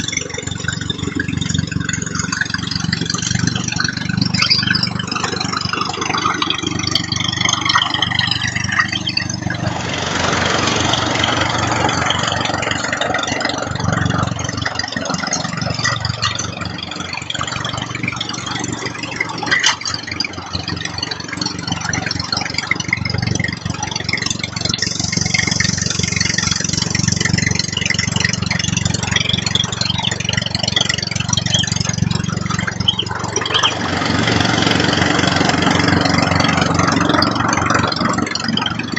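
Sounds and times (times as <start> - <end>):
motor running: 0.0 - 38.9.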